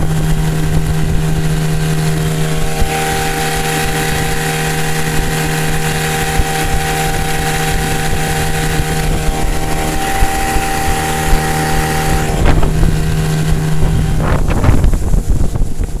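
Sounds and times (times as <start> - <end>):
outboard motor running: 0.0 - 16.0
water rushing along hull: 0.0 - 16.0
wind on microphone: 0.0 - 16.0.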